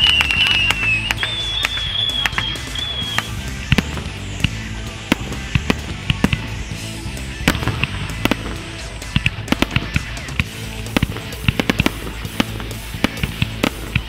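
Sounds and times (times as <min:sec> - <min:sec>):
fireworks bangs and pops: 0:00.0 - 0:14.0
music playing: 0:00.0 - 0:14.0.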